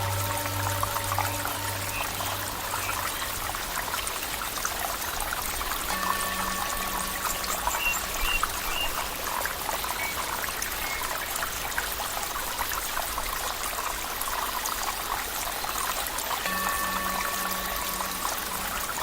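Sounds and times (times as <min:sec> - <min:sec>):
stream water trickling: 0:00.0 - 0:19.0.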